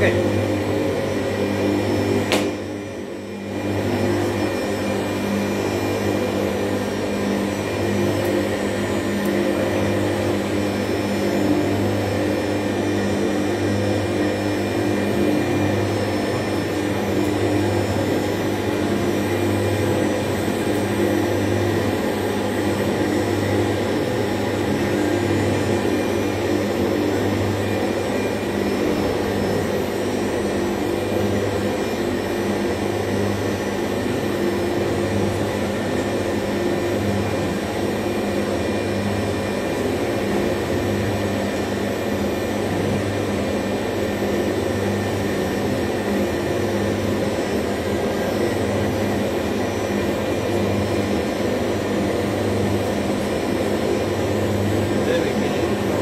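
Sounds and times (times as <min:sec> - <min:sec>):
machine motor hum and whine: 0:00.0 - 0:56.0.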